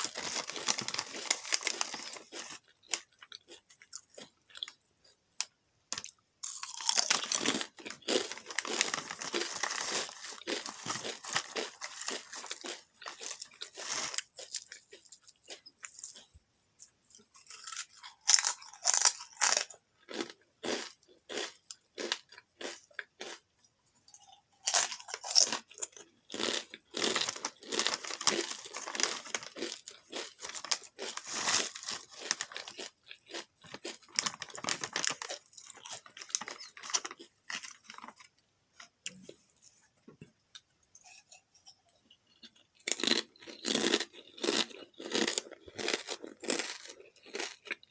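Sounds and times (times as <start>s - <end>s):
person chewing potato chips: 0.0s - 39.4s, 41.0s - 47.9s.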